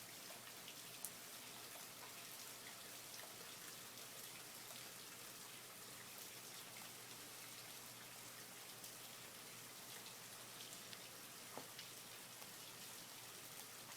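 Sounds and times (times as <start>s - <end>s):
faint rain falling: 0.0s - 13.9s.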